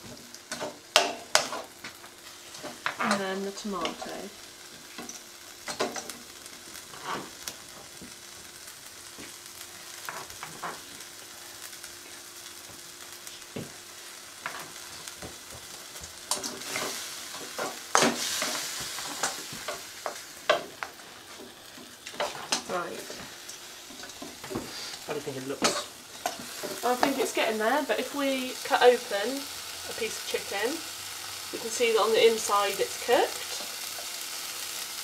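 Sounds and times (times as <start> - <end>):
chicken sizzling in frying pan: 0.0 - 35.0.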